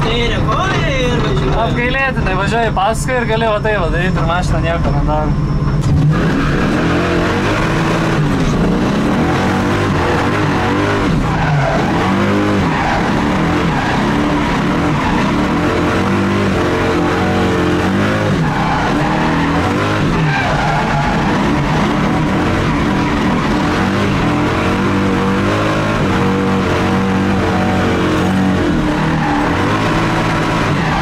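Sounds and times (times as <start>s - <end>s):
car engine revving: 0.0s - 31.0s
tyres screeching: 0.0s - 31.0s.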